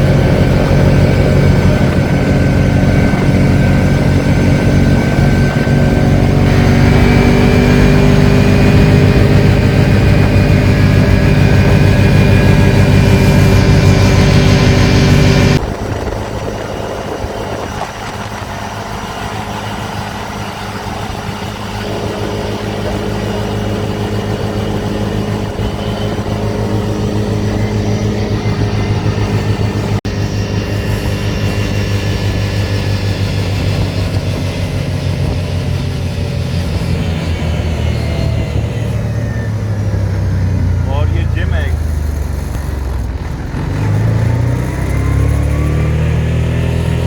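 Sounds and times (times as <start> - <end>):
dune buggy engine running: 0.0 - 47.0.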